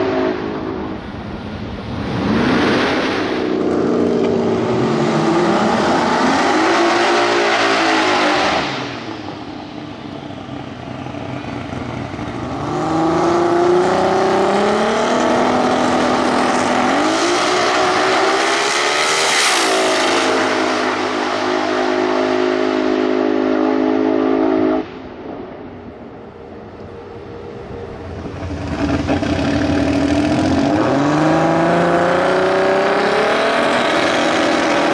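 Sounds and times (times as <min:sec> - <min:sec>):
race car engine revving: 0:01.8 - 0:09.5, 0:11.6 - 0:24.8, 0:27.7 - 0:34.9.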